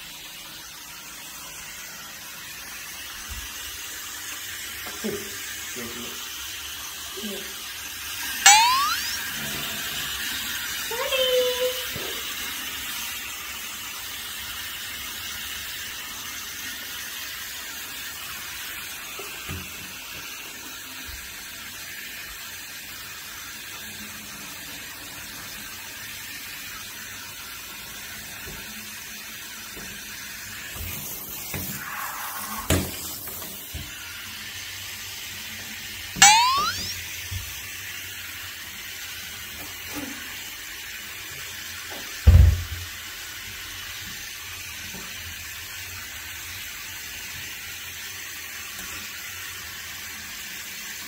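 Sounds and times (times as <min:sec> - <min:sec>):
shower running into bathtub: 0:00.0 - 0:08.4, 0:09.0 - 0:36.2, 0:36.8 - 0:51.0.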